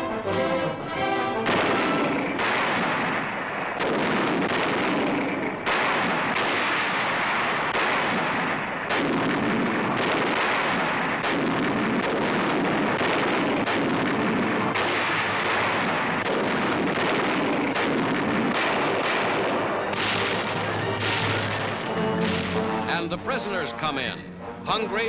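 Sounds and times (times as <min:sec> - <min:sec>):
continuous rumble: 0:00.0 - 0:25.0
artillery guns firing: 0:00.6 - 0:24.0.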